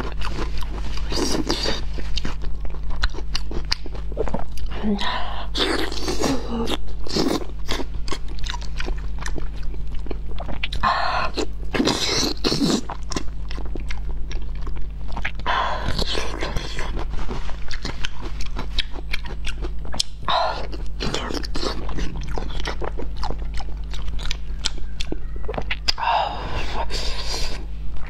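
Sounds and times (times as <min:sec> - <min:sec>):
wet sticky chewing: 0:00.0 - 0:04.8, 0:05.5 - 0:28.0
steady low hum: 0:00.0 - 0:28.0.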